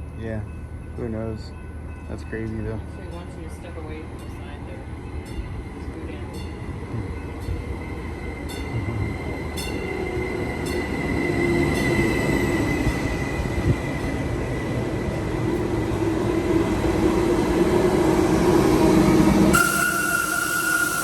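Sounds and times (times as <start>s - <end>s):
diesel train rumble and hum: 0.0s - 21.0s.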